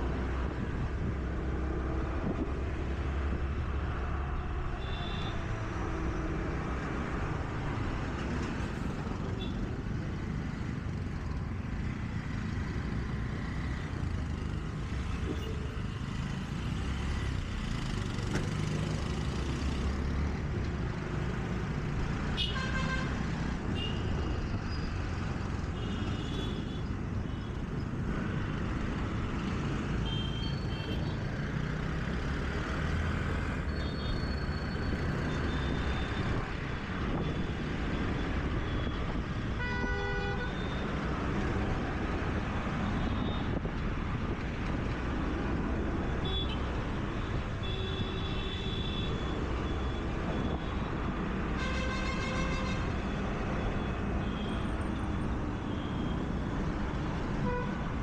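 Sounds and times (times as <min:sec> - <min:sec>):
rumble of traffic engines: 0:00.0 - 0:58.0.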